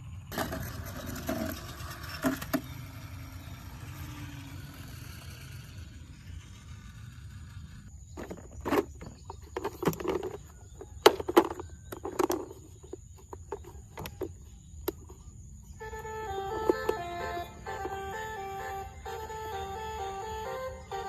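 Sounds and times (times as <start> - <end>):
toy cars clicking and knocking: 0.3 - 15.2, 15.8 - 21.0.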